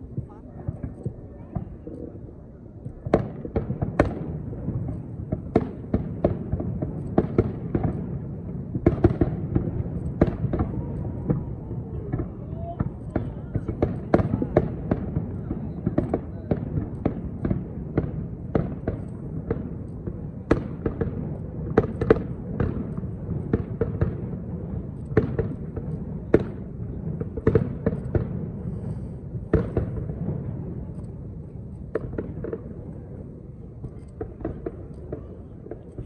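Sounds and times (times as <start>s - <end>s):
fireworks bursting: 0.0s - 36.0s.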